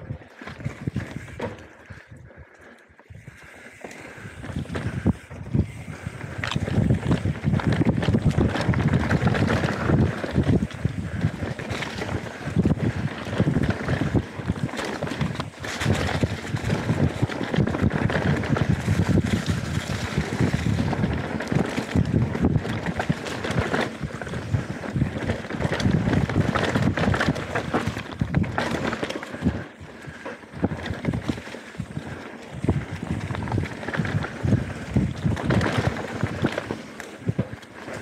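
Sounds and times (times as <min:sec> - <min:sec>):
wind buffeting microphone: 0:00.0 - 0:02.5, 0:03.1 - 0:38.0
bike clattering over bumps: 0:00.1 - 0:02.1, 0:03.1 - 0:38.0
tyres rolling over dirt and leaves: 0:03.5 - 0:38.0.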